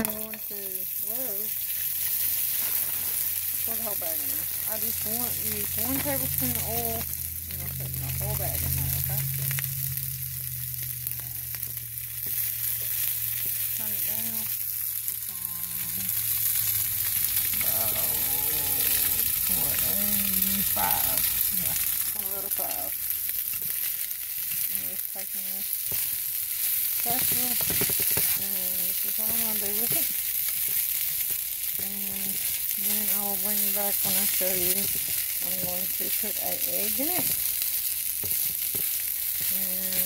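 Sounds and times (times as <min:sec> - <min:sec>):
fried rice sizzling in oil: 0:00.0 - 0:40.0
spatula stirring in skillet: 0:00.1 - 0:15.2, 0:16.1 - 0:40.0.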